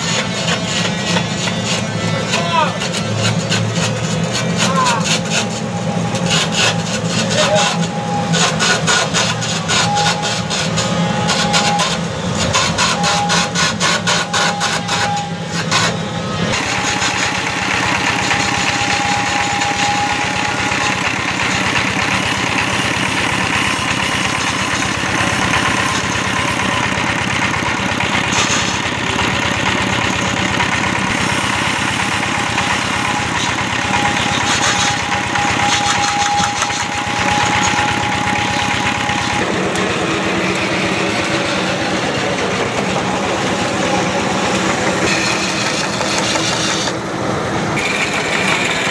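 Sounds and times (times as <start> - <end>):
small engine driving a lathe: 0.0 - 48.9.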